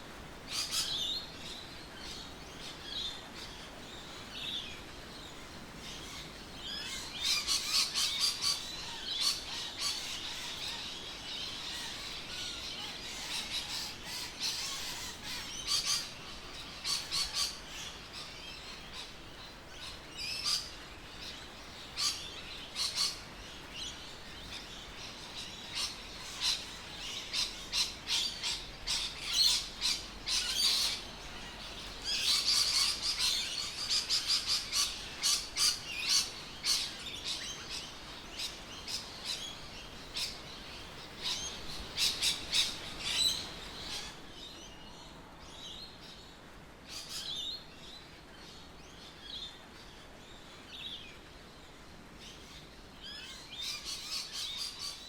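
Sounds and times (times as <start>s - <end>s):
birds chirping: 0.0s - 51.3s
faint steady background noise: 0.0s - 55.0s.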